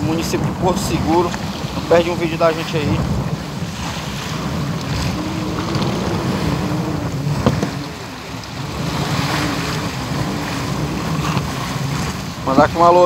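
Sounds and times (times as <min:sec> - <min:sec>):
wind and sea rumble: 0:00.0 - 0:13.0.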